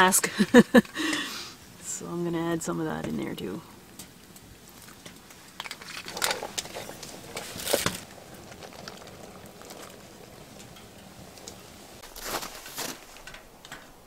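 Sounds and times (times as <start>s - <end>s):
steady soft hiss: 0.0s - 14.0s.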